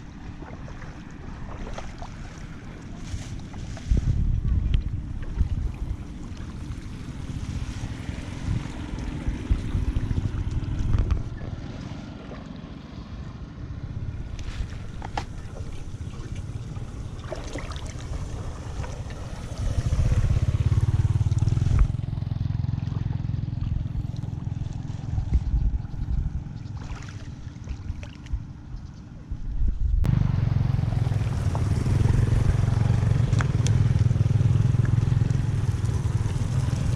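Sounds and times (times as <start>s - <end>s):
low rumble: 0.0s - 11.9s, 13.6s - 36.9s
wind buffeting microphone: 0.0s - 12.2s, 13.2s - 22.3s, 23.0s - 30.2s, 30.8s - 36.9s
floodwater rushing through drain: 0.0s - 13.3s, 14.2s - 25.1s, 30.3s - 36.9s.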